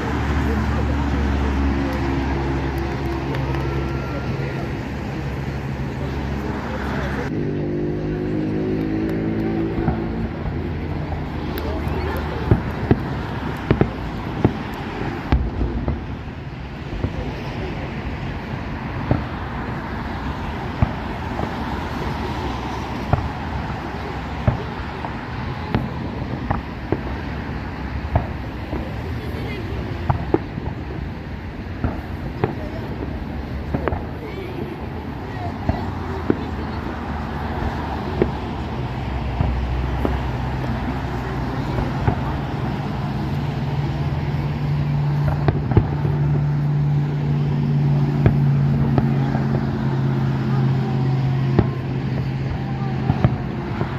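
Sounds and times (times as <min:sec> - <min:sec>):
low engine hum: 0:00.0 - 0:53.9
traffic rumble: 0:00.0 - 0:53.9
distant fireworks bangs: 0:07.9 - 0:53.9.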